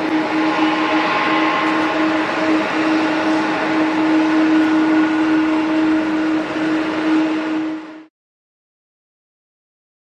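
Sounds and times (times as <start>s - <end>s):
constant low hum: 0.0s - 8.1s
jet engines roaring: 0.0s - 8.1s.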